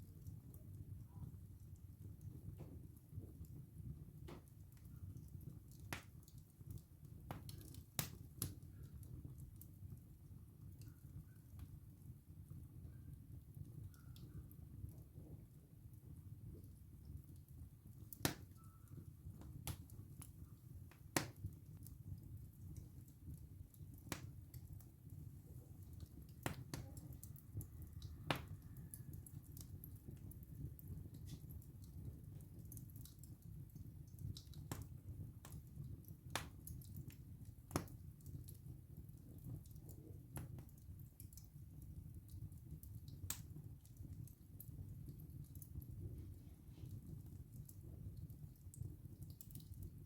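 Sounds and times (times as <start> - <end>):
wood fire burning: 0.0 - 50.0.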